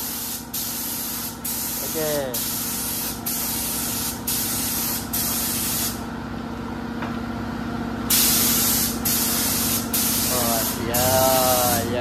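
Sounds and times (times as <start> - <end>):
spray gun hissing: 0.0 - 6.0, 8.1 - 12.0.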